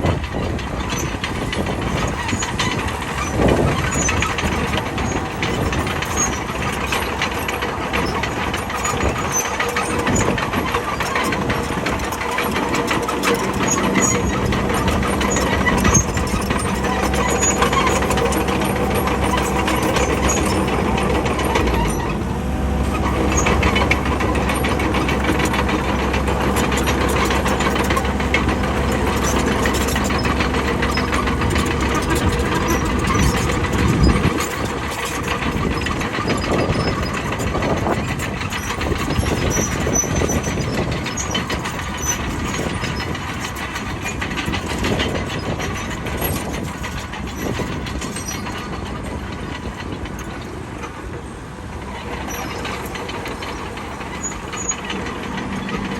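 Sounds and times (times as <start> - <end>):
bulldozer diesel engine: 0.0 - 55.9
clanking and rattling: 0.0 - 55.9.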